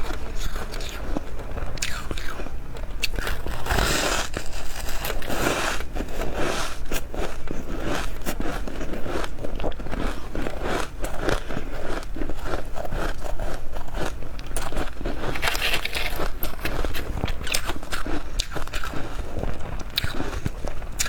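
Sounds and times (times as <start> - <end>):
frost being chewed crunching: 0.0 - 21.0.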